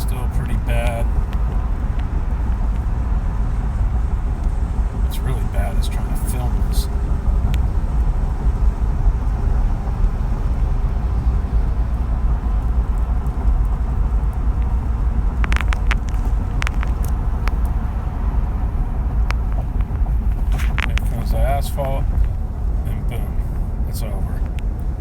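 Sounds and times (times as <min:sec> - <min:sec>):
road rumble inside truck cab: 0:00.0 - 0:25.0.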